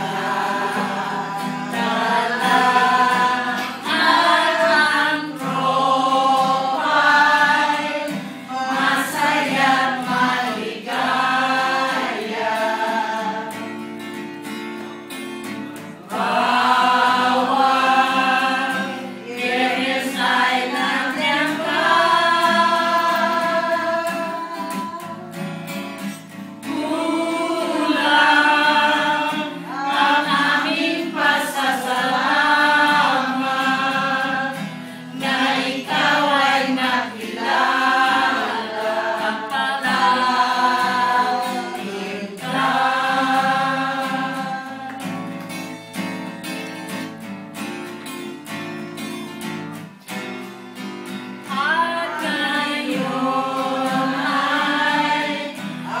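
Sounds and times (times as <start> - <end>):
group singing: 0.0 - 14.6, 15.4 - 46.0, 51.4 - 56.0
acoustic guitar: 0.0 - 56.0.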